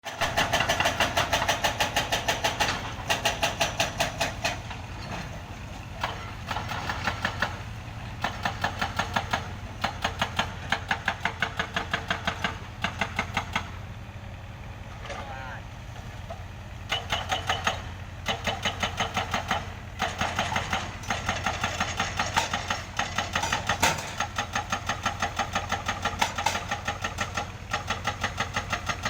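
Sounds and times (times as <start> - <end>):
heavy engine idling: 0.0 - 29.0.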